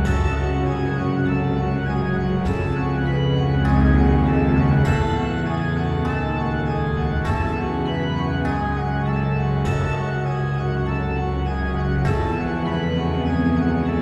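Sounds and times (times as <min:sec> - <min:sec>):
deep bass line: 0:00.0 - 0:14.0
sustained organ chords: 0:00.0 - 0:14.0.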